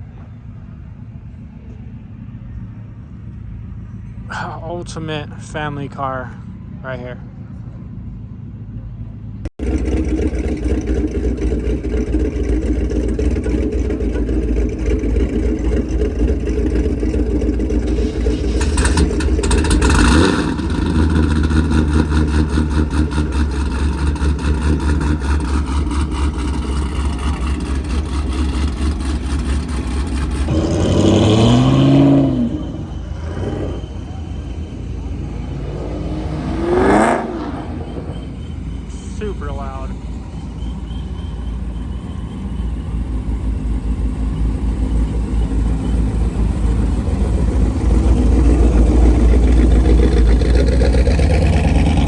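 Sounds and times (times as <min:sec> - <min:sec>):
loud car engine idling and revving: 0:00.0 - 0:52.0.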